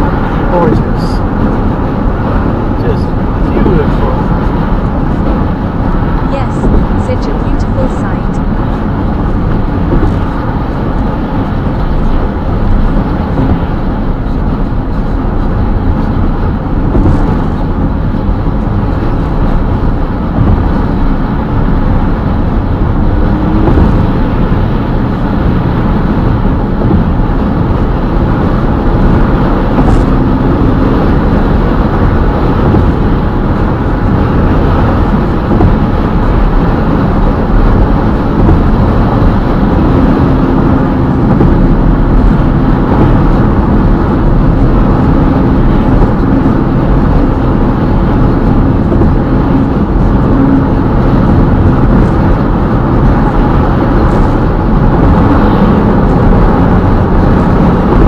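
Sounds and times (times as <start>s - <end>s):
car engine: 0.0s - 58.0s
tyres rumbling on highway: 0.0s - 58.0s
wind noise: 0.0s - 58.0s.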